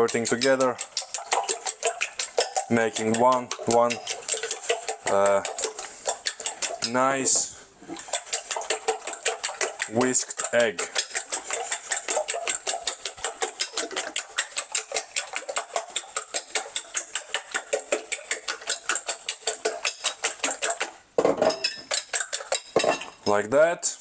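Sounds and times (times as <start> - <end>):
fork whisking eggs in a bowl: 0.0 - 23.4.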